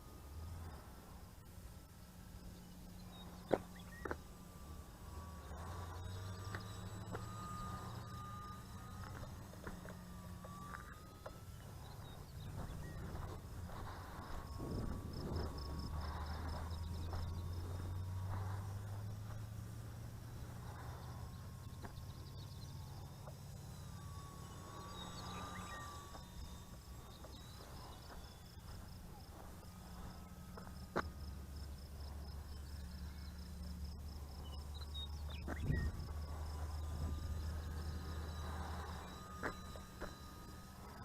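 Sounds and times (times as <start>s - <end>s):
faint thin whine: 0.0s - 41.0s
insects trilling: 0.0s - 41.0s
low outdoor rumble: 0.0s - 41.0s.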